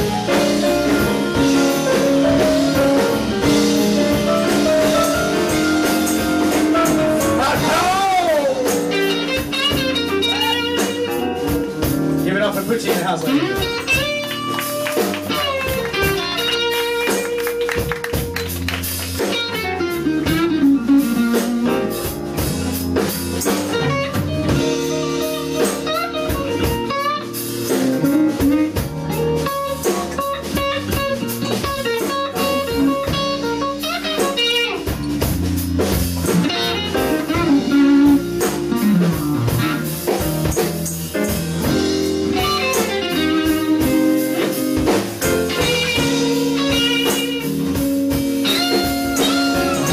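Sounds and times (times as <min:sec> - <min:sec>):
drums: 0:00.0 - 0:49.9
electric guitar bending notes: 0:00.0 - 0:49.9.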